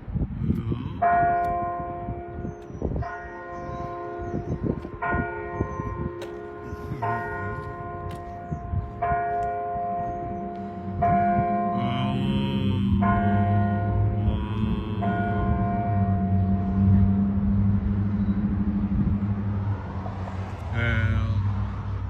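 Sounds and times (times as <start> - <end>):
church bell tolling: 1.0 - 19.8.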